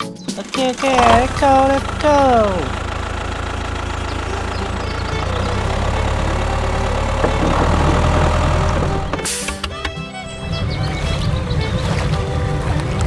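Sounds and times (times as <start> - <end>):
tractor engine running: 0.3 - 13.0.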